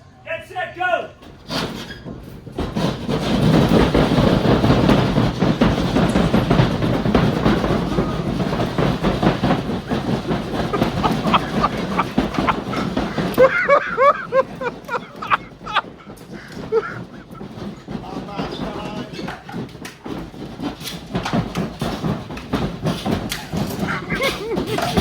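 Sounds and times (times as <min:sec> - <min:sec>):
clatter of parts handled: 0:01.2 - 0:25.0
saws rasping through plasterboard: 0:01.4 - 0:25.0.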